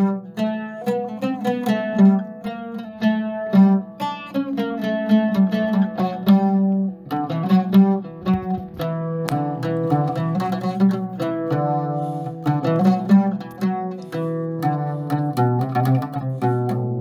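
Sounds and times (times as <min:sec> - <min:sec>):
oud melody: 0:00.0 - 0:17.0.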